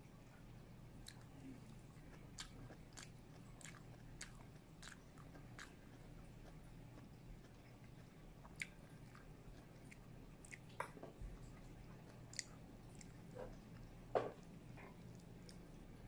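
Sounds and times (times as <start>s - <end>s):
person chewing: 1.0s - 15.8s.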